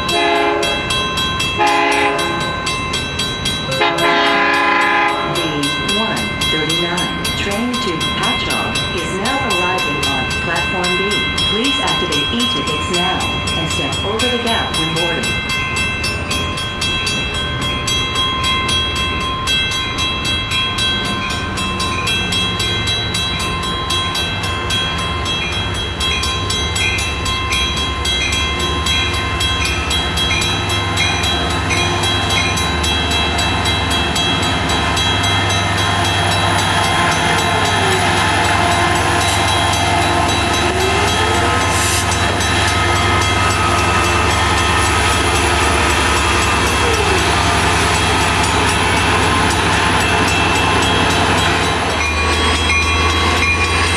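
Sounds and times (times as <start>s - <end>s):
diesel train engine drone: 0.0s - 53.9s
high ringing tones: 0.0s - 53.9s.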